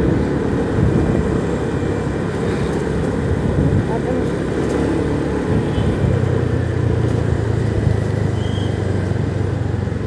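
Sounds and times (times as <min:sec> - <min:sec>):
wind and road rush: 0:00.0 - 0:10.0.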